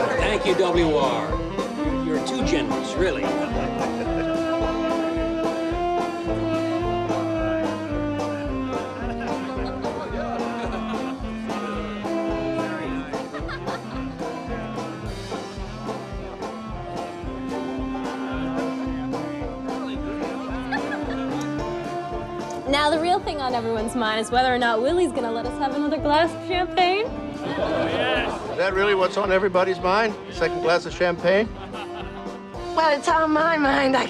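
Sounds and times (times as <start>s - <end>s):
instrumental music with steady beat: 0.0s - 34.0s.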